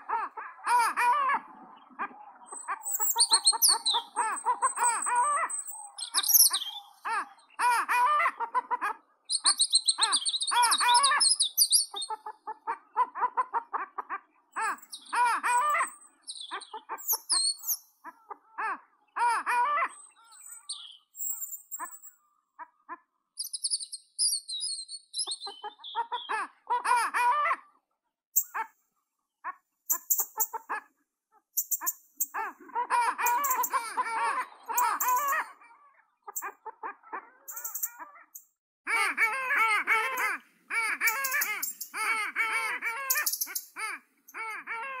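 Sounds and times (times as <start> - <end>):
birds high chirps and twittering: 0.0 - 27.5, 28.4 - 28.7, 29.9 - 45.0
birds repeated low calls: 0.0 - 27.8, 28.4 - 28.7, 29.4 - 45.0.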